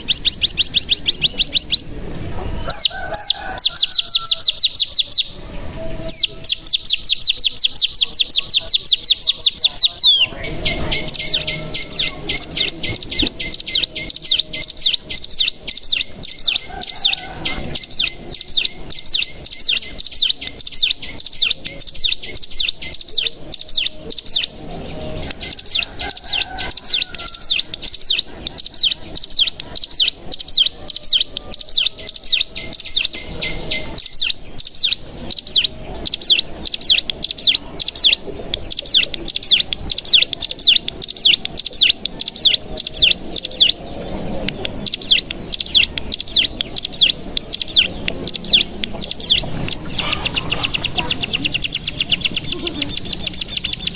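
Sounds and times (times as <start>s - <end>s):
bird singing rapid high chirps: 0.0s - 53.9s.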